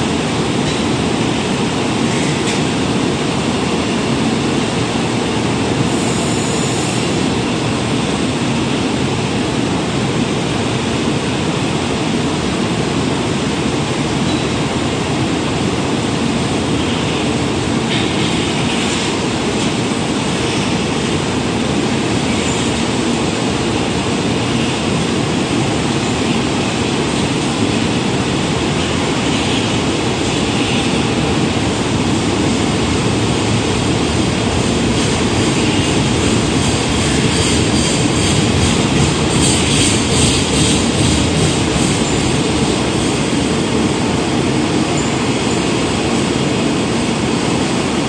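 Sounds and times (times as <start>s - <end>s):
steel wheels rumbling on rail: 0.0s - 48.0s.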